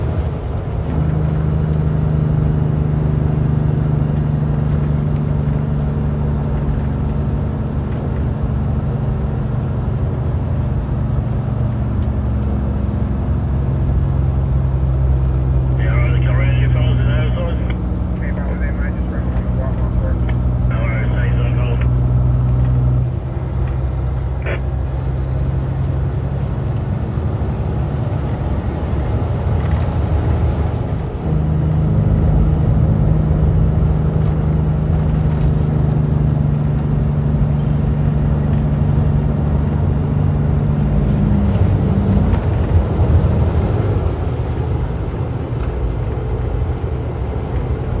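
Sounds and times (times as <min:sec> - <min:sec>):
louder steady engine note: 0:00.0 - 0:48.0
truck diesel engines under load: 0:00.0 - 0:48.0.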